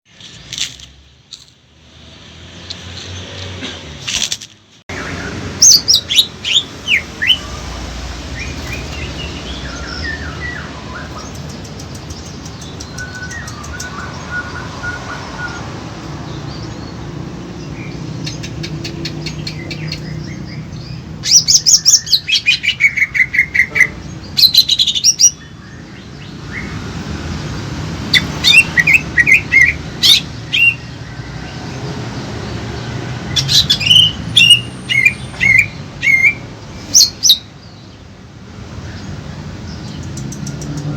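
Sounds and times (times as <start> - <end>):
songbirds chirping: 4.9 - 40.9.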